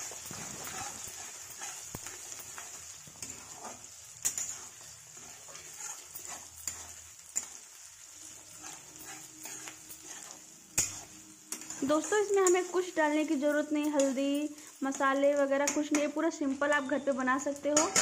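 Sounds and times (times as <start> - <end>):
metal spatula scraping a pan: 0.0 - 16.0, 17.6 - 18.0
oil sizzling: 0.0 - 18.0.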